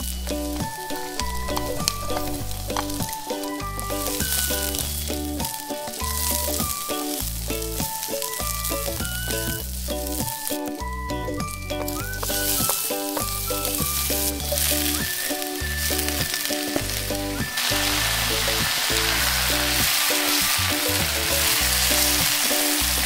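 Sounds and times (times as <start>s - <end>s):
background music: 0.0s - 23.0s
vegetables sizzling in oil: 0.0s - 23.0s.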